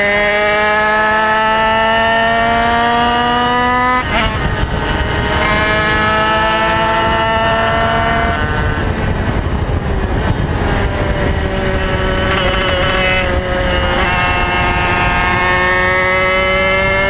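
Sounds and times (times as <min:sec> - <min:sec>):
racing motorcycle engine revving: 0:00.0 - 0:17.0
wind rumbling on microphone: 0:00.0 - 0:17.0.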